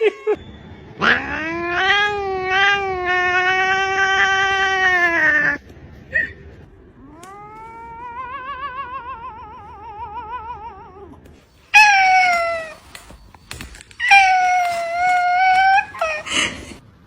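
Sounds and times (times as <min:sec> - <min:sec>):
cat meowing: 0:01.0 - 0:05.6, 0:07.0 - 0:11.2, 0:11.8 - 0:16.8.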